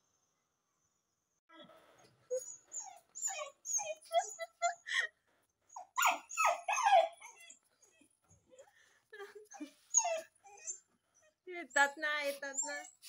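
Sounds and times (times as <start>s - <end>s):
dog whimpering: 2.0s - 5.1s, 5.7s - 13.0s.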